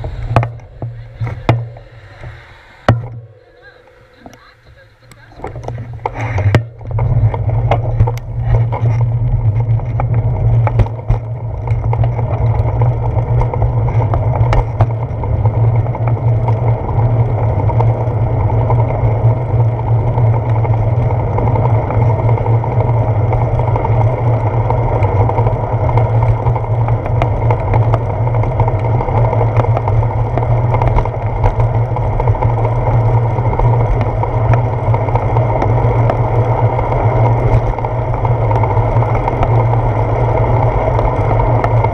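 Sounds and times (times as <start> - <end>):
bicycle bump knocks: 0.0 - 12.8, 13.4 - 16.6, 21.8 - 41.9
wind and road noise: 0.0 - 41.9.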